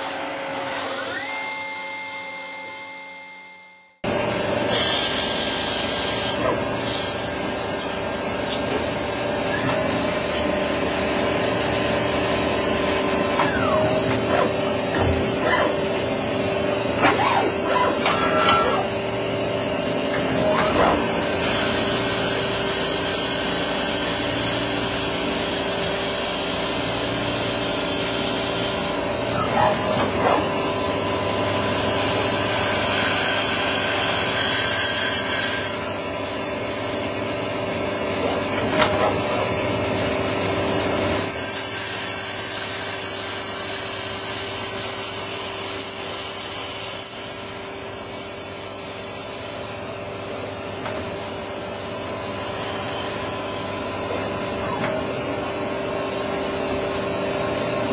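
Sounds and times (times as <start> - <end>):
lathe machine hum: 0.0 - 57.9.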